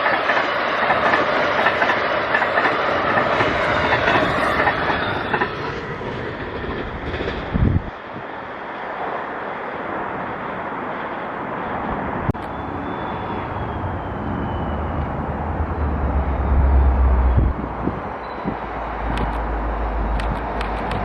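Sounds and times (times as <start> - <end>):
approaching train rumble: 0.0 - 21.0
train rushing: 0.0 - 21.0.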